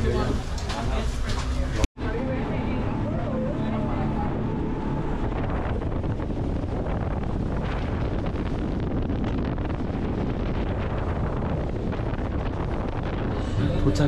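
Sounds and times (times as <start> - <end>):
wind buffeting microphone: 0.0 - 14.0
motorboat engine drone: 2.0 - 14.0.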